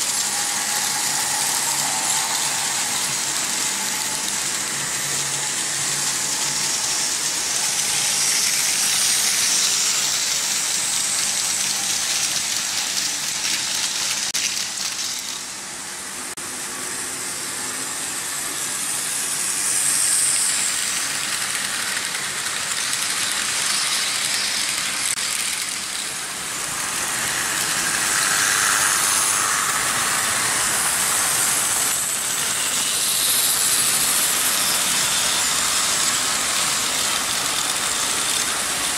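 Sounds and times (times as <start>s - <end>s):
model train wheels rattling on track: 0.0s - 15.6s, 19.1s - 38.9s
model train motors whirring: 0.0s - 38.9s.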